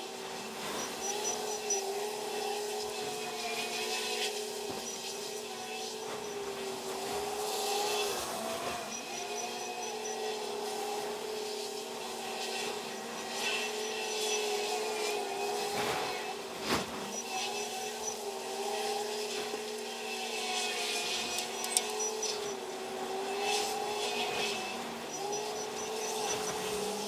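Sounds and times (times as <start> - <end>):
wheel loader diesel engine whine: 4.4 - 27.0.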